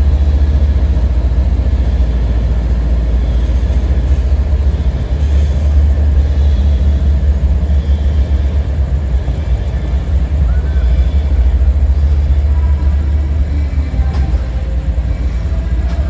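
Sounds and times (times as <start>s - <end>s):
train rolling past rumbling: 0.0s - 16.0s.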